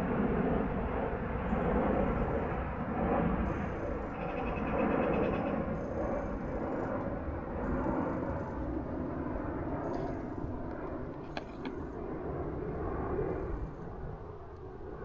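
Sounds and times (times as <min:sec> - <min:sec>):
airplane flying overhead: 0:00.0 - 0:15.0.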